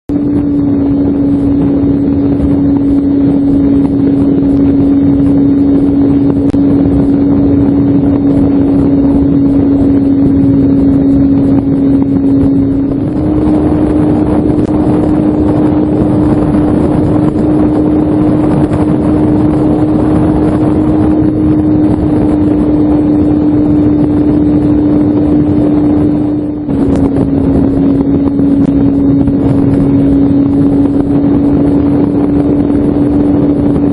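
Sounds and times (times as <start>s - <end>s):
electric motor and propeller: 0.1s - 33.9s
loud wind rush: 0.1s - 33.9s.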